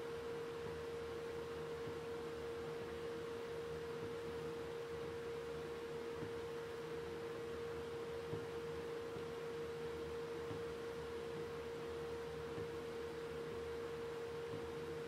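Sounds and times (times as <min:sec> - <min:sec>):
electrical hum: 0:00.0 - 0:15.0
faint lower hum: 0:00.0 - 0:15.0.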